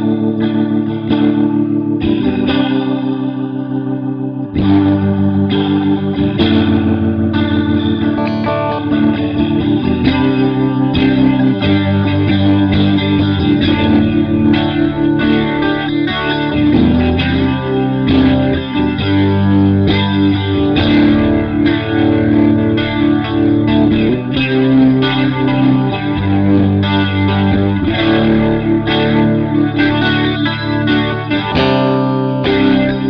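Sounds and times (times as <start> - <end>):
distorted electric guitar strumming: 0.0 - 33.0.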